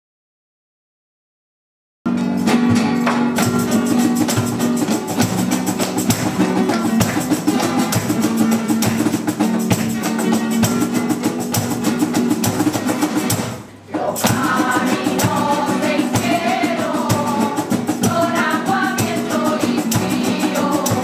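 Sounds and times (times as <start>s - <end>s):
cajon beating time: 2.1s - 21.0s
guitars strummed rapidly: 2.1s - 21.0s.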